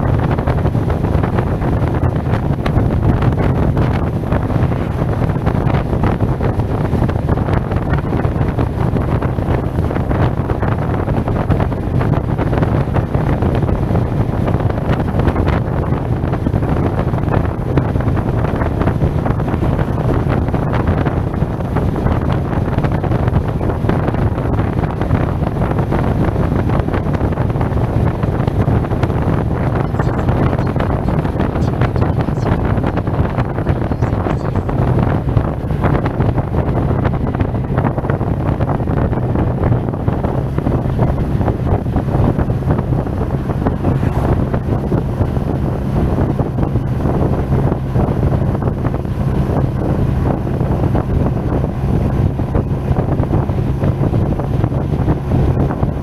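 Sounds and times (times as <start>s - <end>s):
low scooter drone: 0.0s - 56.0s
wind buffeting microphone: 0.0s - 56.0s.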